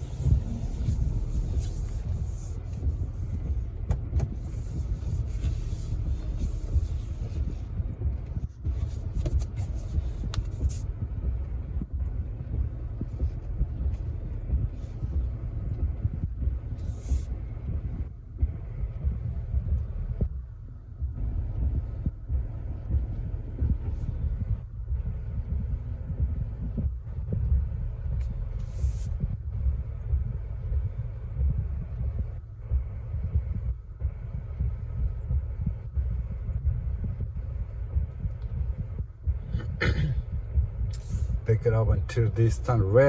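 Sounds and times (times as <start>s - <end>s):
low vehicle rumble: 0.0s - 43.0s.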